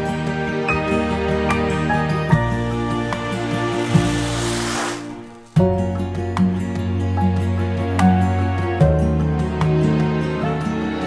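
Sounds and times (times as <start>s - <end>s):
gentle instrumental music: 0.0s - 11.0s.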